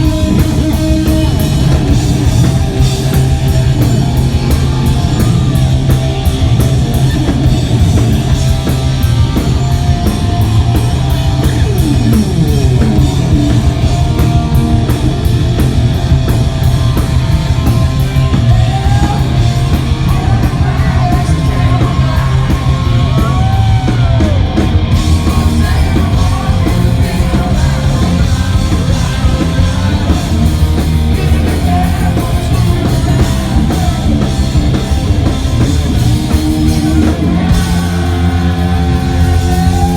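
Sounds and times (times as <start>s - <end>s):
bass guitar: 0.0s - 39.9s
distorted electric guitar: 0.0s - 39.9s
drum kit with cymbals: 0.0s - 39.9s
rock vocals: 0.0s - 39.9s.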